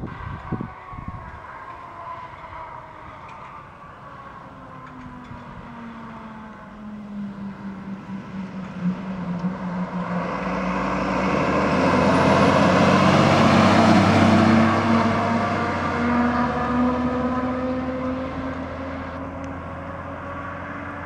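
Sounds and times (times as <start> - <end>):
fire engine passing by: 0.0 - 21.0.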